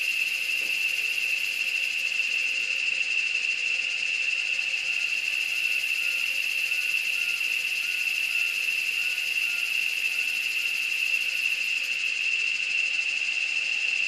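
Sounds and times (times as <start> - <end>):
shrill insect chorus: 0.0 - 14.0.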